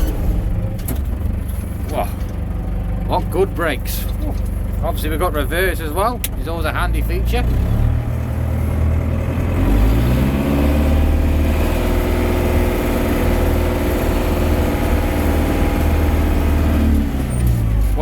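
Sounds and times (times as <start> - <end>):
diesel tractor engine revving: 0.0 - 18.0.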